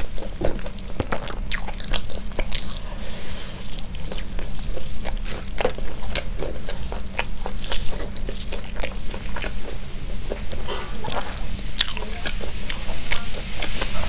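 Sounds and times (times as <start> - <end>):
low steady hum: 0.0 - 14.0
wet chewing: 0.0 - 14.0.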